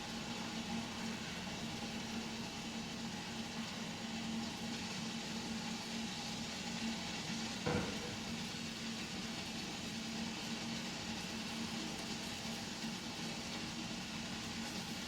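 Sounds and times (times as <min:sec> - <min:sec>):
kitchen background hum: 0:00.0 - 0:15.0.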